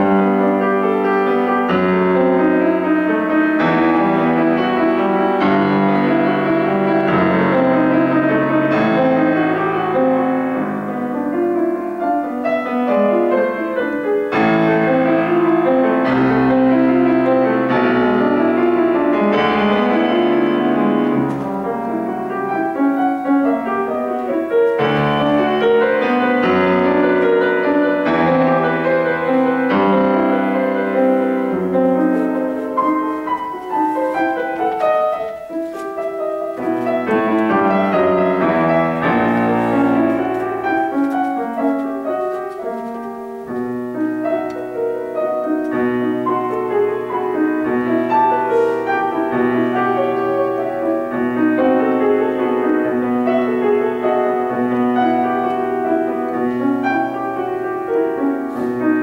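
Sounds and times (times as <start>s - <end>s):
solo classical piano piece: 0.0s - 59.0s.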